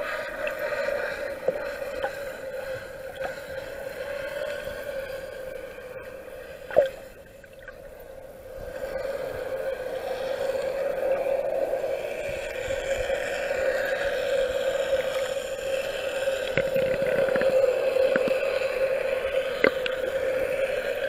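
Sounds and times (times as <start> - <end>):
underwater hum: 0.0 - 21.0.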